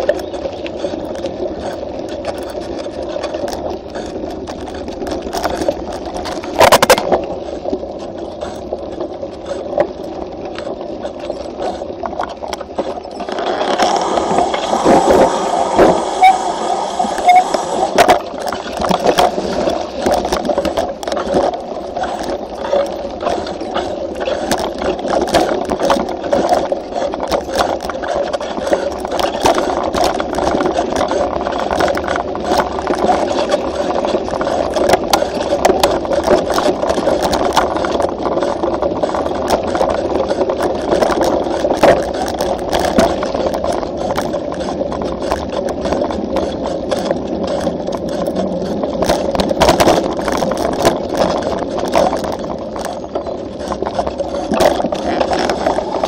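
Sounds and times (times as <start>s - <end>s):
bike rattling over rough trail: 0.0s - 56.0s
tyres rolling on gravel: 0.0s - 56.0s.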